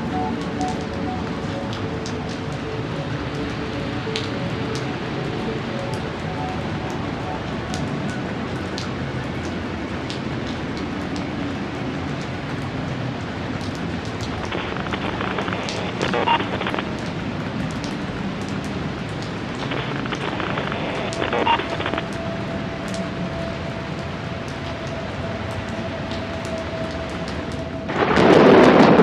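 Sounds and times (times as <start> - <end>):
sharp drip ticks: 0.0 - 27.8
rain hiss: 0.0 - 29.0.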